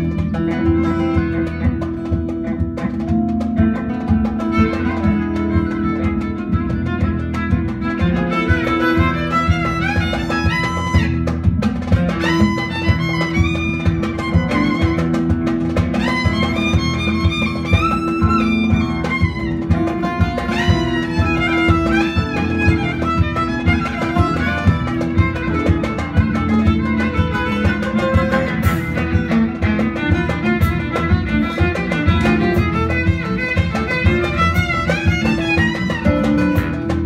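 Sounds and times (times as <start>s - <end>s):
electric bass: 0.0s - 37.0s
keyboard: 0.0s - 37.0s
oud: 0.0s - 37.0s
steady beat: 0.0s - 37.0s
violin sliding melody: 4.3s - 37.0s.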